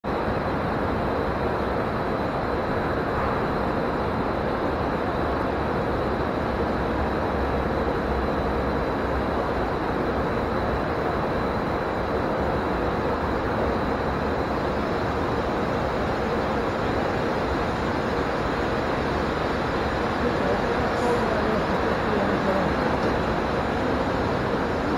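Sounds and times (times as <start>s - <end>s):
faint high whine: 0.1s - 24.9s.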